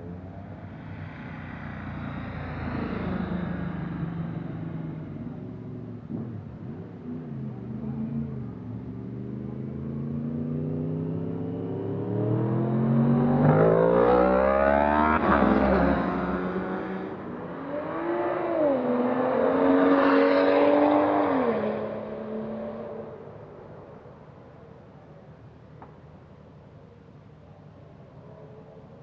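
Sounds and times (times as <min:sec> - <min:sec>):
car engine: 0:00.0 - 0:24.5
motorcycle passing: 0:00.1 - 0:23.8.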